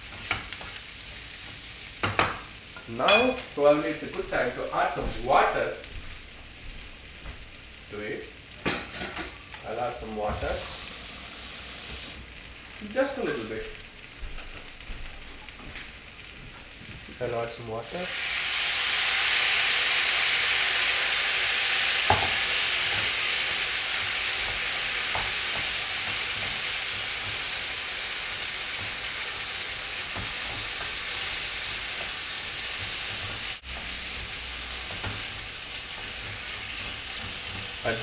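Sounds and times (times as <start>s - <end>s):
water sizzling in hot pan: 0.0s - 38.0s.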